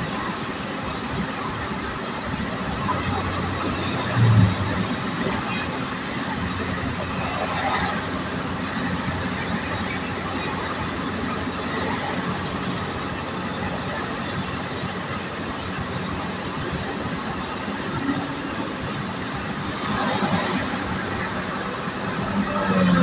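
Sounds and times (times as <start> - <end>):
vehicle engine and tyre noise: 0.0 - 23.0.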